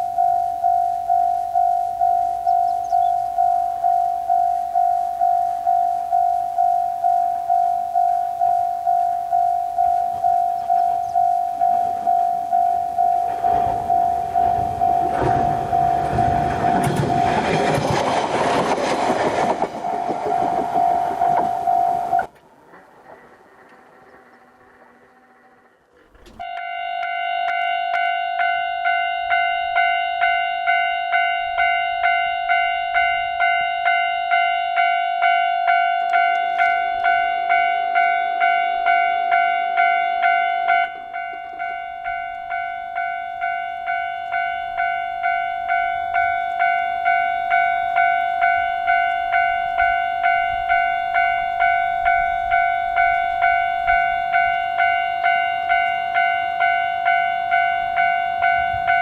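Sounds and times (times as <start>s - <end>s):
level crossing warning bell: 0.0s - 22.4s, 26.0s - 59.0s.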